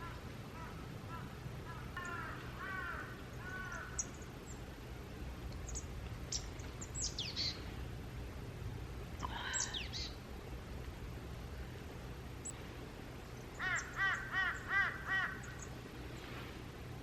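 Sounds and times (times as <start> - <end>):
wild birds chirping: 0.0 - 10.6, 11.4 - 16.7
low steady background rumble: 0.0 - 17.0.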